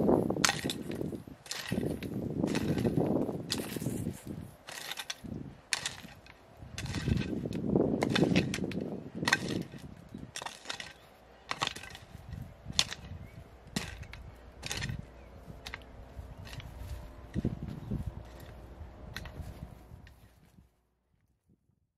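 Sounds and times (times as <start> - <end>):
metal hoe scraping stony soil: 0.0 - 20.7.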